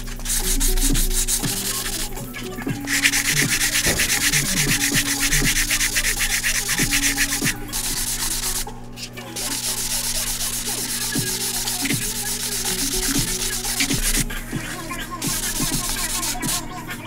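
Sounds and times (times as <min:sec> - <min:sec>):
sanding sponge rubbing on metal: 0:00.0 - 0:17.0.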